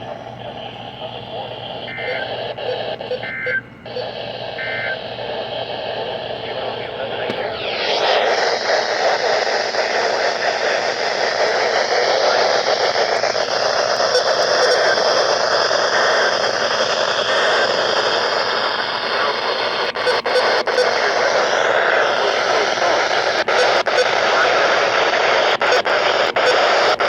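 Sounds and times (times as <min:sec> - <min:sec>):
radio static hiss: 0:00.0 - 0:27.0.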